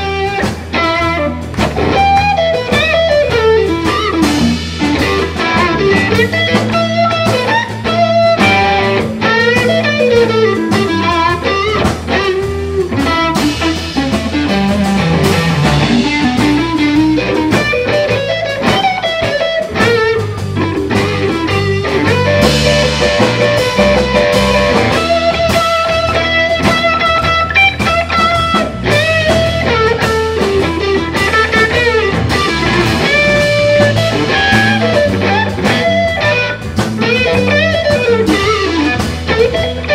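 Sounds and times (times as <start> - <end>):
bass guitar: 0.0 - 39.9
drums: 0.0 - 39.9
electric guitar solo with bends: 0.0 - 39.9.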